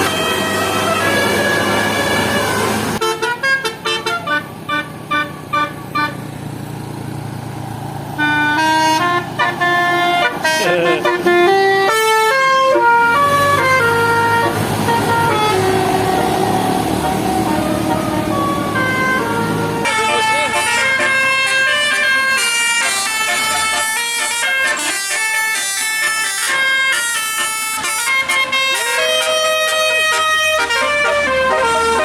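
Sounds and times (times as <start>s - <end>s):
bus horn playing a melody: 0.0s - 6.4s, 8.2s - 32.0s
bus engine running: 0.0s - 32.0s.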